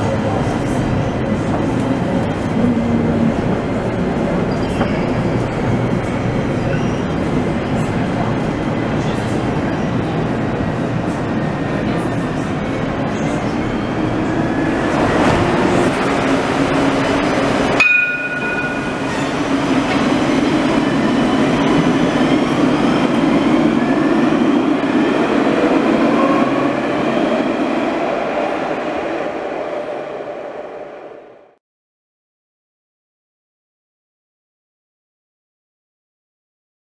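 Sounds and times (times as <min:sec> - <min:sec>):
tram rumbling: 0:00.0 - 0:31.6
tram motors whining: 0:00.1 - 0:31.2.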